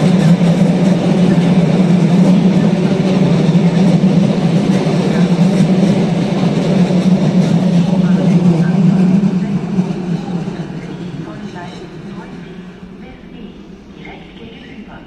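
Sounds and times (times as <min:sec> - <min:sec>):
wheels rumbling on rails: 0:00.0 - 0:12.7
electric train hum: 0:00.0 - 0:15.0.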